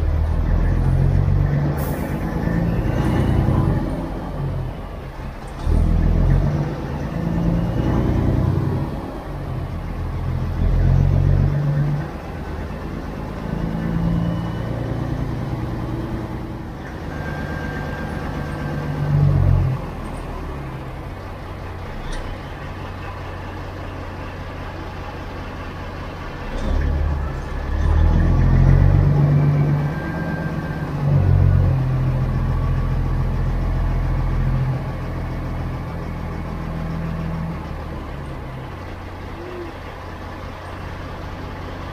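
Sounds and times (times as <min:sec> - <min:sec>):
diesel truck engine revving: 0:00.0 - 0:41.9.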